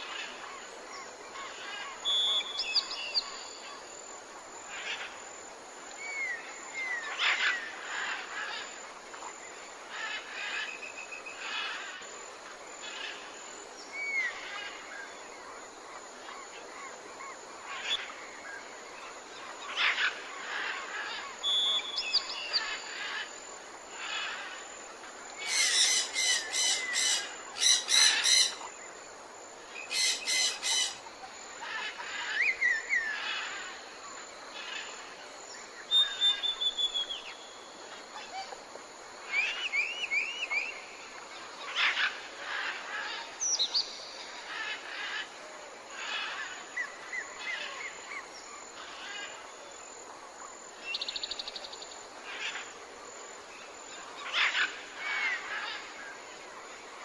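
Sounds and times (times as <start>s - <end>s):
songbirds calling and singing: 0.0s - 4.0s, 4.6s - 49.8s, 50.7s - 56.9s
faint steady hiss: 0.0s - 57.0s.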